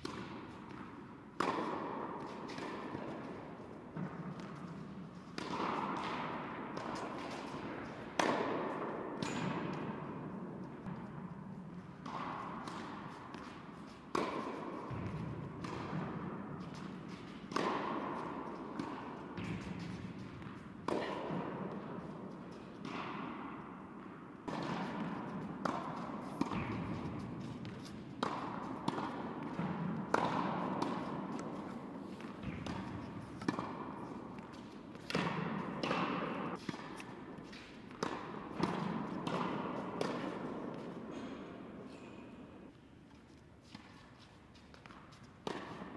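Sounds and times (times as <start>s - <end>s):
ball bouncing on hard court: 0.0s - 41.6s, 44.6s - 45.9s
tennis ball hit with rackets: 0.0s - 42.0s, 43.6s - 45.9s.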